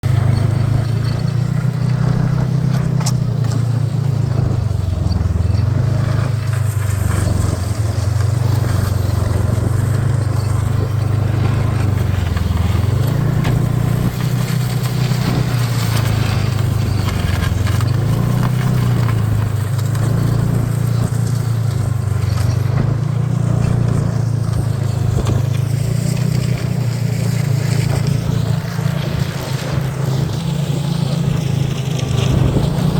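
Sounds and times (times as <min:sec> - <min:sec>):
snowmobile engine running: 0:00.0 - 0:32.9.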